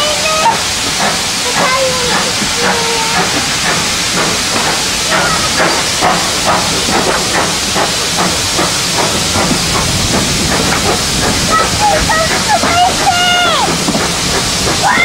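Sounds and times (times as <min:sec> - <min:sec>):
steam locomotive venting steam: 0:00.0 - 0:15.0.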